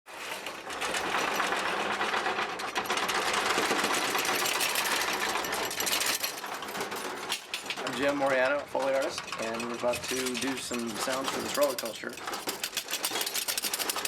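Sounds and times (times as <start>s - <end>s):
rapid mechanical rattling: 0.2s - 14.0s.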